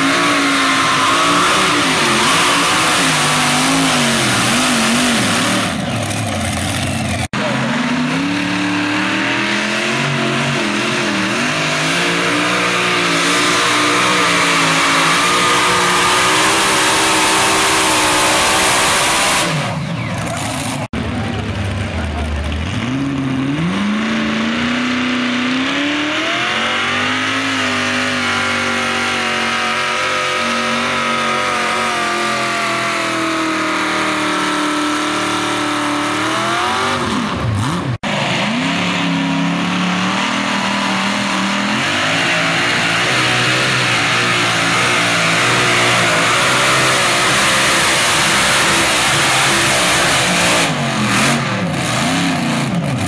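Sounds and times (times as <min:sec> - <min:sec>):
pulling tractor engine at full throttle: 0:00.0 - 0:53.0.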